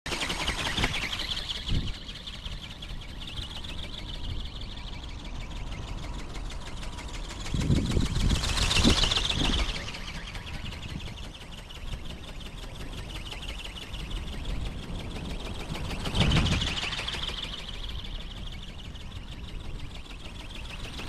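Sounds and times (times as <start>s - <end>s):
ornithopter pulsing buzz: 0.1s - 21.0s
wind buffeting on microphone: 0.4s - 4.7s, 6.0s - 13.0s, 13.9s - 21.0s.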